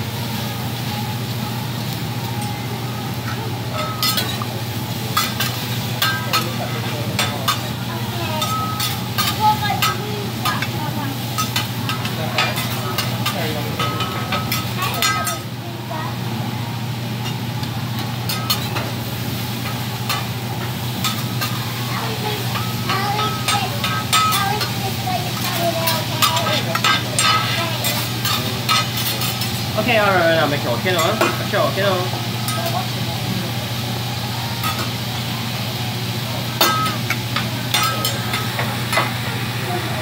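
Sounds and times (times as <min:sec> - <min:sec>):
vegetables sizzling on a griddle: 0:00.0 - 0:40.0.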